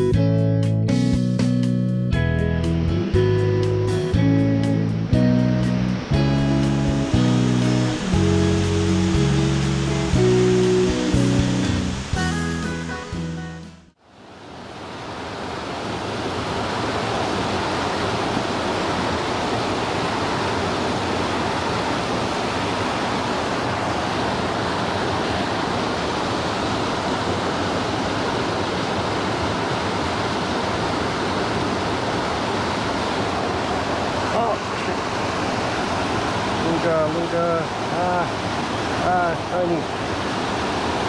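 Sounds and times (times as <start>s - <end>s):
creek rushing over boulders: 5.5s - 12.2s, 14.0s - 41.0s.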